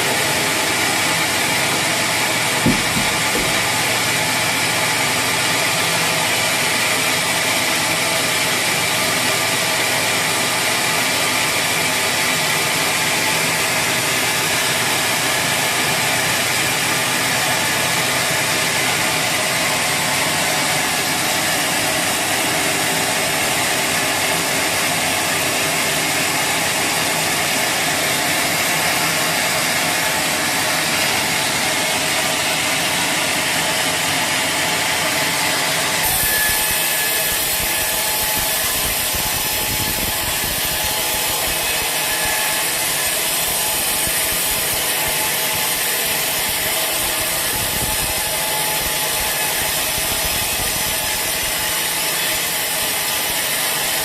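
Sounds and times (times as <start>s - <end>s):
sawmill saw cutting log: 0.0s - 54.0s.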